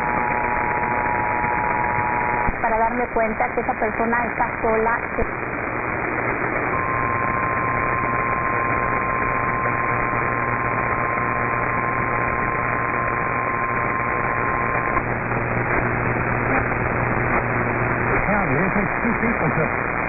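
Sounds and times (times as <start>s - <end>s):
low hum: 0.0s - 20.0s
radio static and hiss: 0.0s - 20.0s
steady tone: 0.0s - 20.0s.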